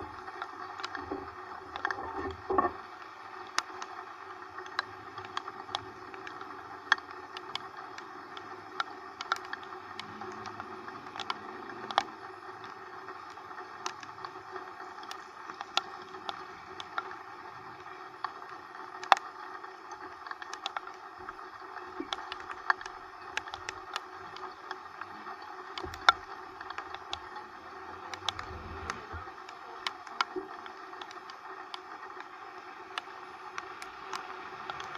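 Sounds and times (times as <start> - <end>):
rain hissing: 0.0 - 34.9
raindrops ticking: 0.0 - 34.9.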